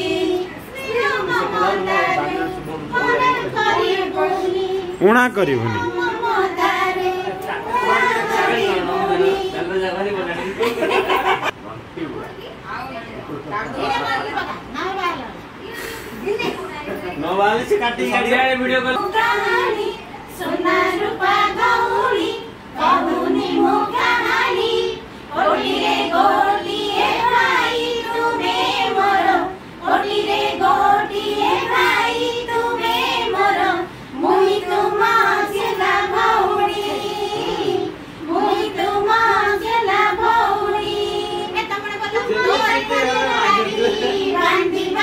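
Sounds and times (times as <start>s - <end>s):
group of voices singing: 0.0s - 11.4s, 18.7s - 45.0s.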